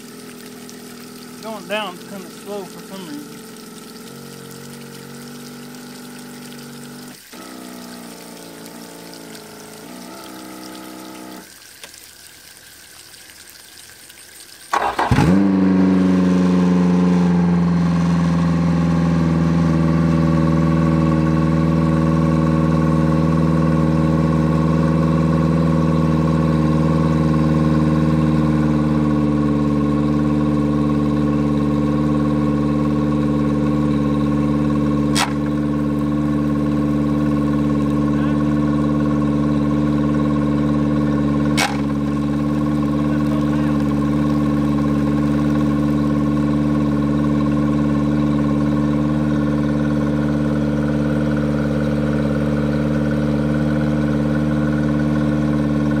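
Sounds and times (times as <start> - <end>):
outboard motor starting and idling: 0.0 - 56.0.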